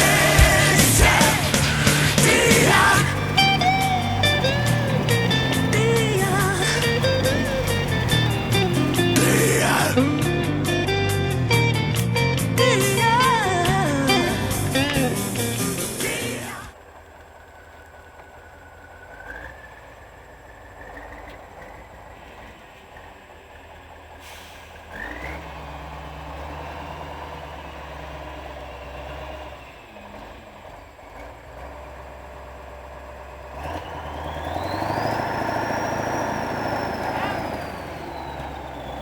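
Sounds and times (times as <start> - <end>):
tractor diesel engine whining: 0.0 - 39.0.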